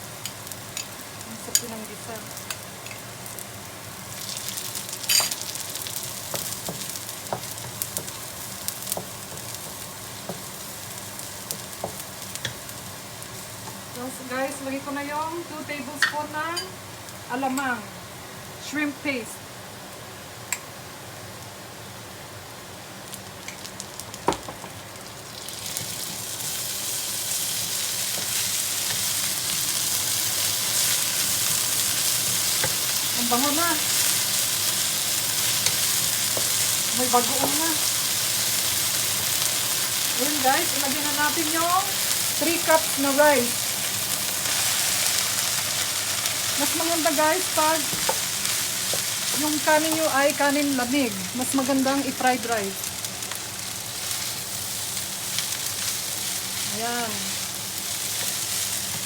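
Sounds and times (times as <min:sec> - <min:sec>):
oil sizzling in a frying pan: 0:00.0 - 0:59.0.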